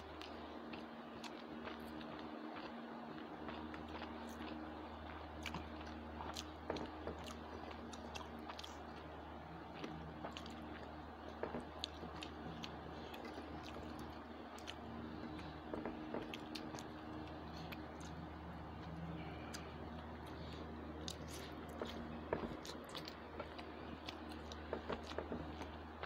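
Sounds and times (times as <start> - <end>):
chewing and wet smacks: 0.0 - 26.0
steady low hum: 0.0 - 26.0.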